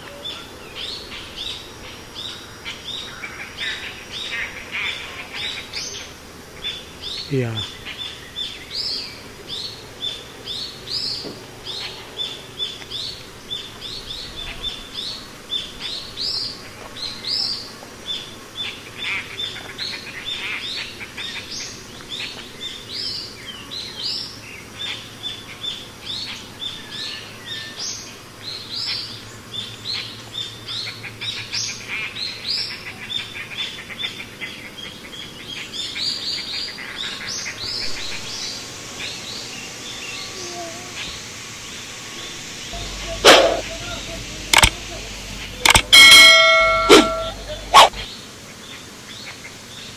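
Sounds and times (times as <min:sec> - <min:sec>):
birds chirping: 0:00.0 - 0:48.3.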